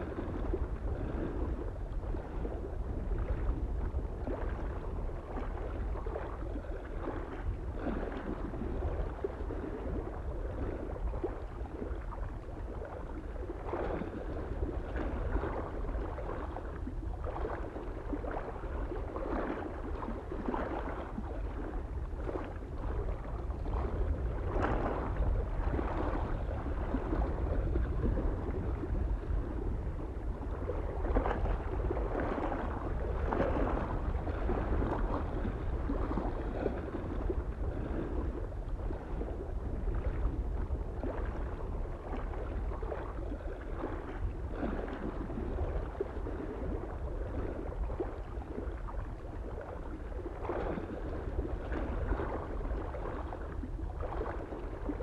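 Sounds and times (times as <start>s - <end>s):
low wind rumble: 0.0s - 55.0s
small waves lapping: 0.0s - 55.0s.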